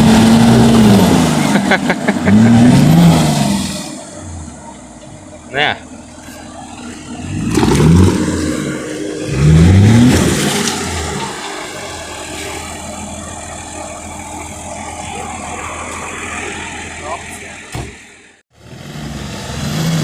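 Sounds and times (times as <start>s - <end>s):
engine revving: 0.0s - 4.8s, 5.5s - 20.0s.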